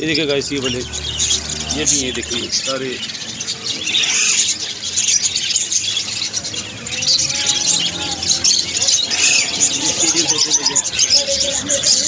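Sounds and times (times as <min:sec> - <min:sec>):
parrots chattering: 0:00.0 - 0:12.0.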